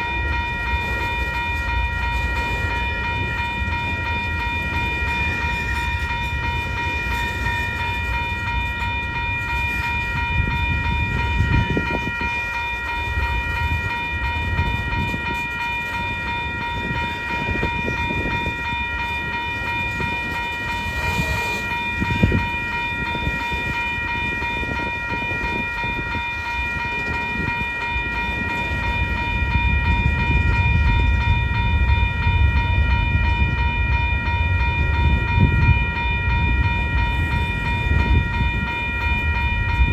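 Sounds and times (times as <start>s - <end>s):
freight train rumbling: 0.0s - 39.9s
high-pitched ringing: 0.0s - 39.9s
train clanks and knocks: 0.0s - 39.9s.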